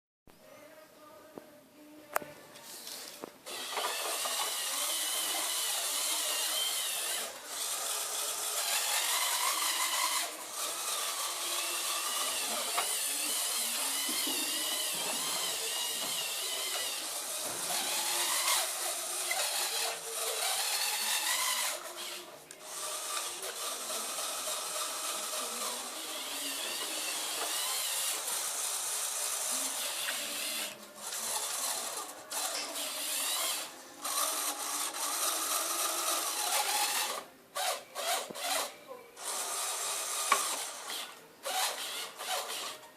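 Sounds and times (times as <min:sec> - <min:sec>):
small electric motor whining: 0:03.4 - 0:42.9.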